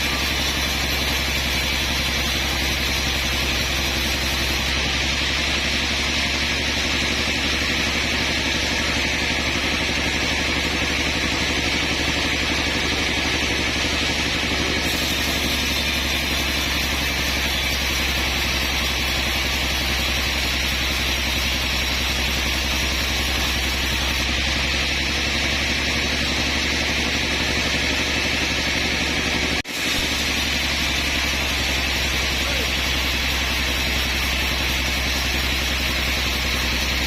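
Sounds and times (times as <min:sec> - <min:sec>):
sawmill machinery drone: 0:00.0 - 0:37.0.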